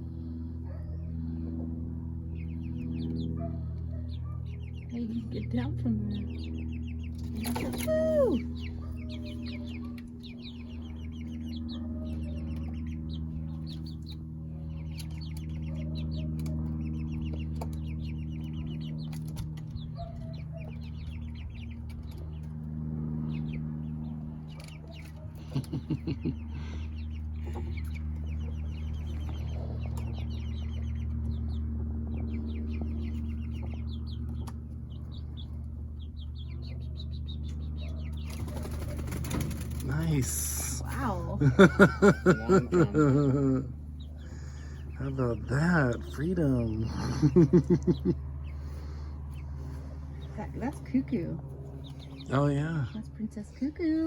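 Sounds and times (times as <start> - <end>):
steady low hum: 0.0 - 54.0
chicks peeping and clucking: 0.1 - 54.0.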